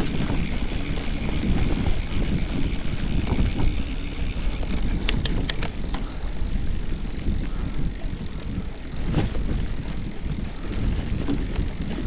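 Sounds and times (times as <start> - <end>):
bicycle rumbling over dirt track: 0.0 - 12.0
wind buffeting microphone: 0.0 - 12.0.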